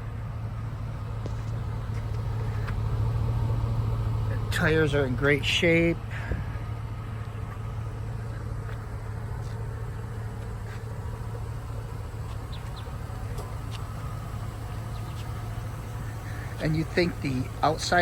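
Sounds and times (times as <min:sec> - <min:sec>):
pickup truck engine idling: 0:00.0 - 0:18.0.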